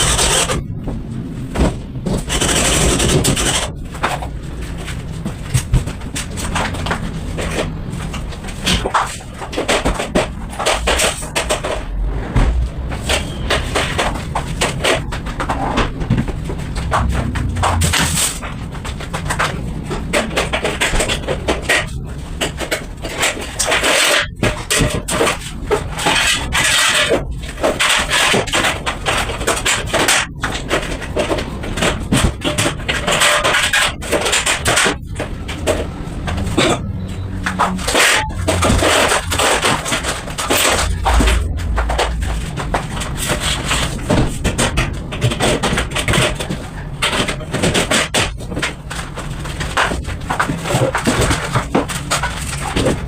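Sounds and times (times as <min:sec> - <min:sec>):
construction tools knocking and scraping: 0:00.0 - 0:53.0.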